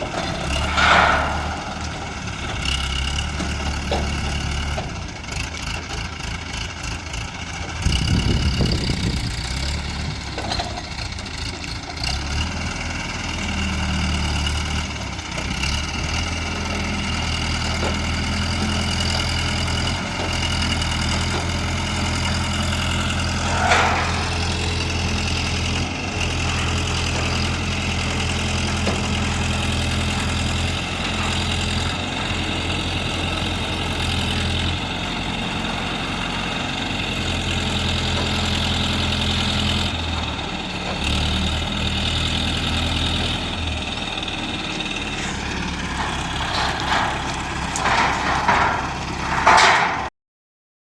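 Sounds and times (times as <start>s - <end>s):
crane engine idling: 0.0s - 50.1s.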